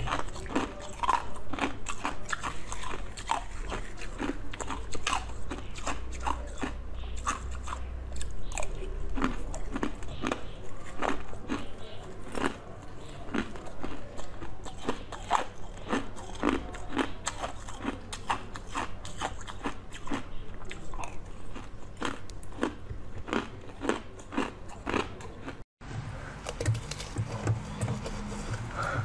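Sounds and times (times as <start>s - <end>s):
biting and crunching frozen jelly: 0.0s - 25.6s.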